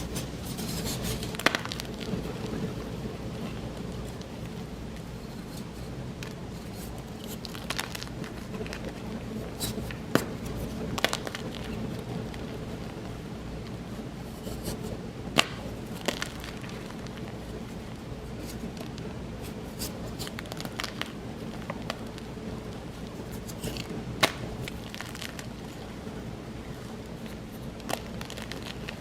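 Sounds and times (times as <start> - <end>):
chalk blocks crunching: 0.0 - 2.7, 3.4 - 12.4, 14.3 - 26.0, 26.7 - 29.0
sharp chalk cracks: 0.0 - 12.6, 13.6 - 29.0
faint steady hum: 0.0 - 29.0.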